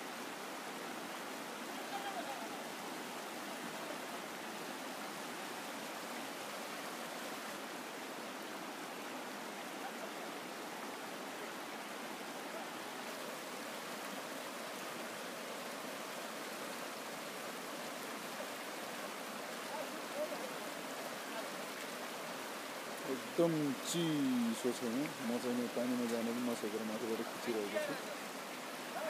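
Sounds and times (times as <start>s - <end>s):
river rushing over stones: 0.0s - 29.0s.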